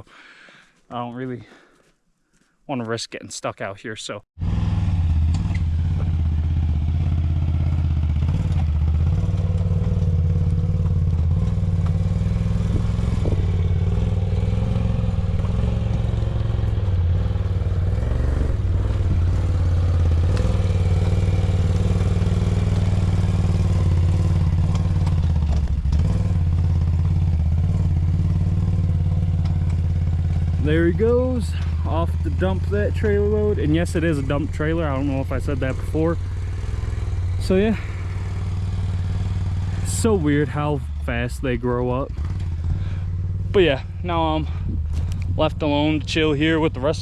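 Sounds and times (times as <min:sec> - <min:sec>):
quad engine running: 0:04.4 - 0:47.0.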